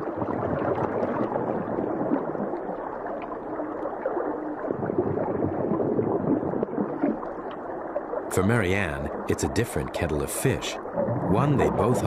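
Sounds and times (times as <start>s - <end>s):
water gurgling and bubbling: 0.0s - 12.0s.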